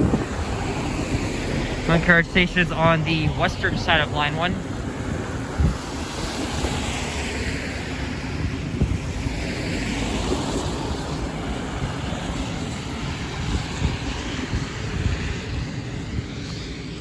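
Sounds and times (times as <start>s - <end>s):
road traffic rumble: 0.0s - 17.0s
wind on microphone: 0.0s - 17.0s.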